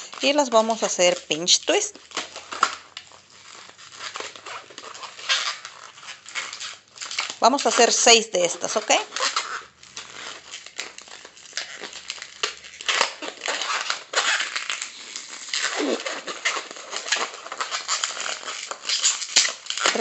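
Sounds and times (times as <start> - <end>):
balloon rubbing and crinkling: 0.0 - 20.0
balloon squeaks: 0.0 - 20.0.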